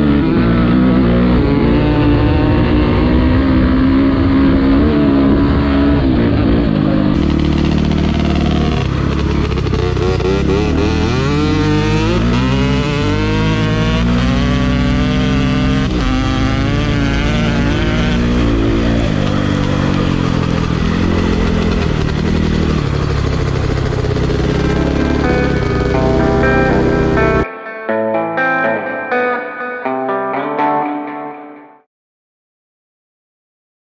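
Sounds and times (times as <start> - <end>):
dirt bike engine revving: 0.0 - 27.4.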